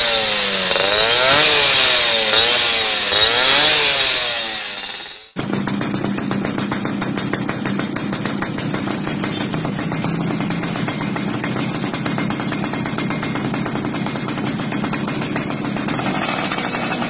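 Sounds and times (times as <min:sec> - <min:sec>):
two-stroke engine idling: 0:00.0 - 0:17.0.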